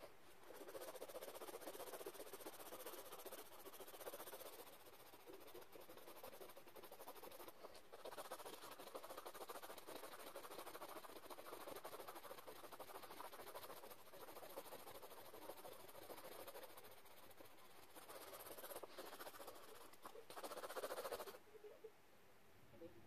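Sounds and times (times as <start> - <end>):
pencil scratching on paper: 0.0 - 21.4.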